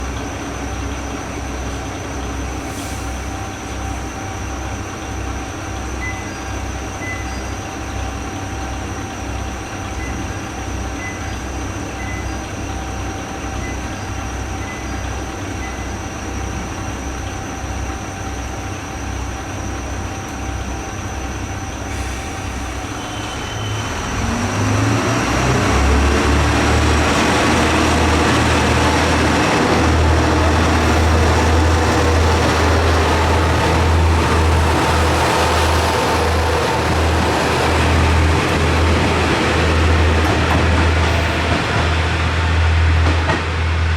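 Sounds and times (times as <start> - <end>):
diesel railcar engine: 0.0 - 43.9.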